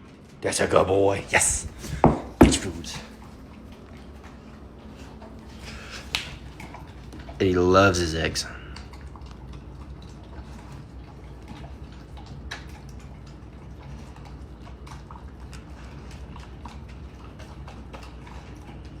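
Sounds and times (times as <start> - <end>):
dog eating from bowl: 0.0 - 19.0
low steady hum: 0.0 - 19.0.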